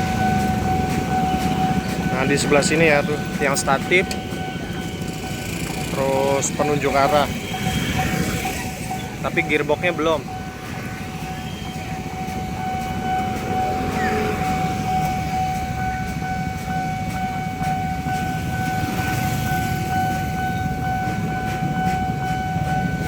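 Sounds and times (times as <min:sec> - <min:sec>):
higher tone: 0:00.0 - 0:23.0
low traffic rumble: 0:00.0 - 0:23.0.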